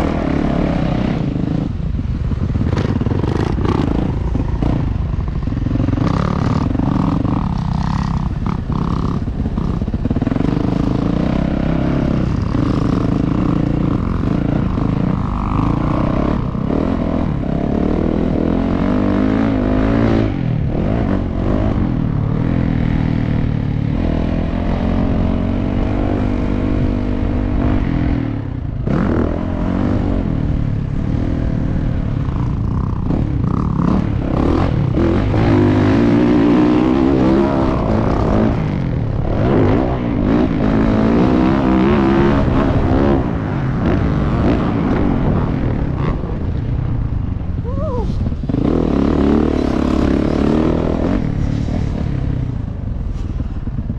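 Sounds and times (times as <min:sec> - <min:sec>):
dirt bike engine revving: 0:00.0 - 0:28.2, 0:28.8 - 0:46.5, 0:48.4 - 0:52.2.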